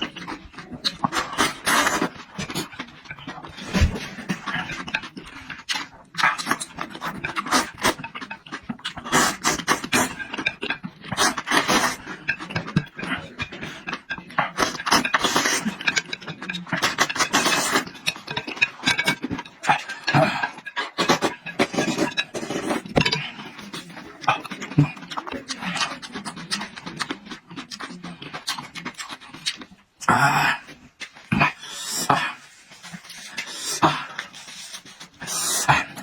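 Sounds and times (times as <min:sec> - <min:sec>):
chewing and slurping: 0:00.0 - 0:36.0.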